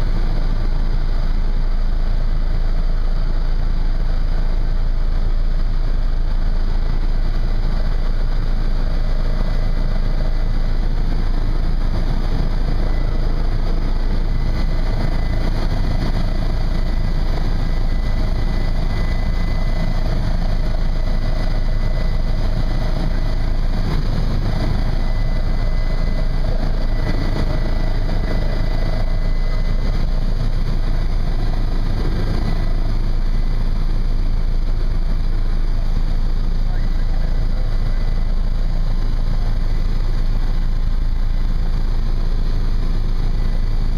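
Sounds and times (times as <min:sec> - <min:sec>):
faint high whine: 0:00.0 - 0:43.9
helicopter engine and rotor drone: 0:00.0 - 0:43.9.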